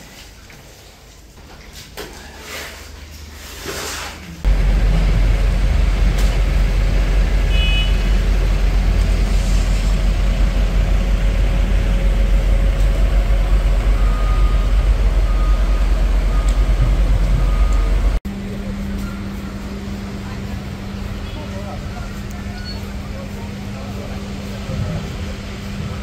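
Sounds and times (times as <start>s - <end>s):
heavy vehicle engine rumbling: 4.4s - 26.0s.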